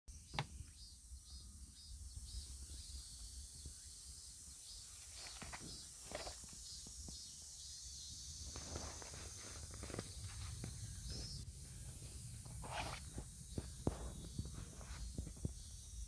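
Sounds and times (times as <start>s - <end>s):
cicadas droning: 0.1s - 16.0s.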